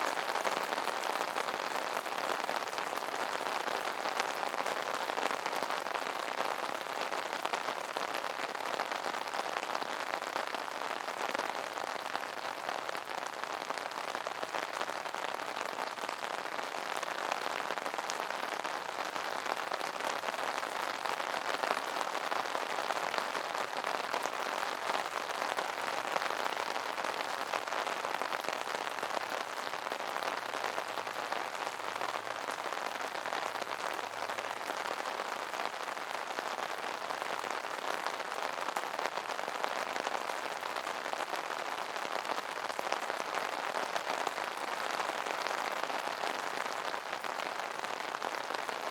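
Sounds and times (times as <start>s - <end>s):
rain pattering on an umbrella: 0.0s - 48.9s.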